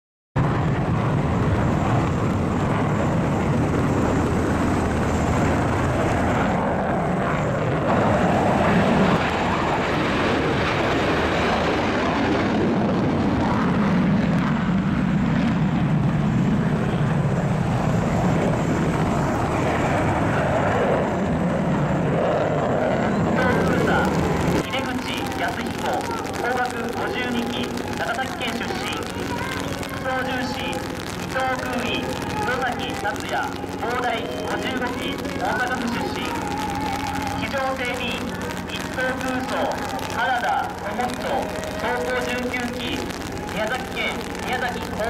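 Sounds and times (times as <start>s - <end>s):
aircraft engines running: 0.4s - 45.0s.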